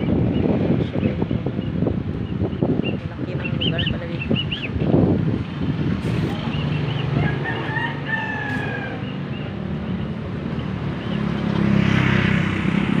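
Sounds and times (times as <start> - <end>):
street traffic hum: 0.0 - 13.0
vehicle approaching: 0.0 - 13.0.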